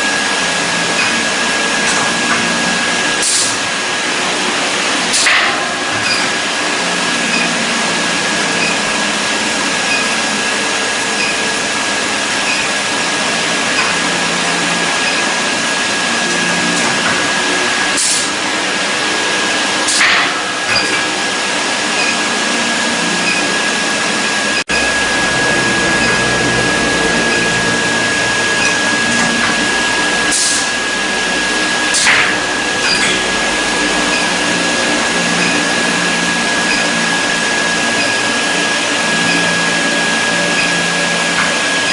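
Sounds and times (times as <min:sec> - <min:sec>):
machine whining: 0:00.0 - 0:41.9.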